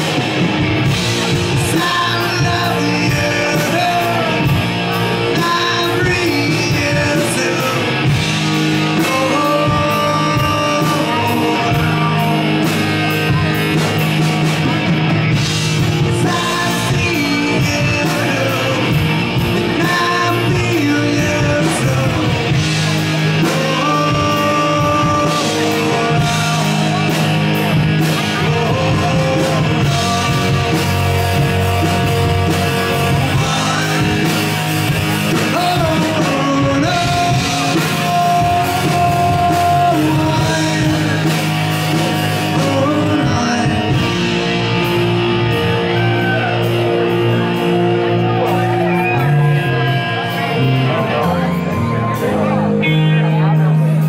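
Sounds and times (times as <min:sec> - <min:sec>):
person singing: 0:00.0 - 0:14.2, 0:15.3 - 0:54.0
bass guitar: 0:00.0 - 0:54.0
electric guitars: 0:00.0 - 0:54.0
steady drum beat: 0:00.0 - 0:54.0.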